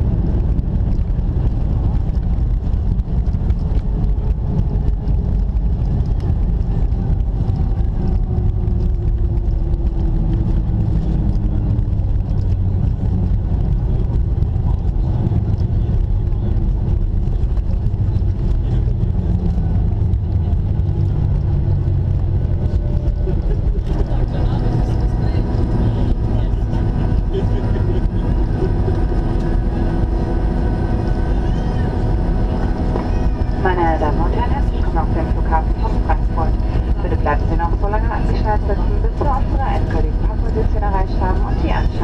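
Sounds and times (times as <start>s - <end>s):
jet engine hum and whine: 0.0s - 42.0s
wheels and airframe rumble: 0.0s - 42.0s.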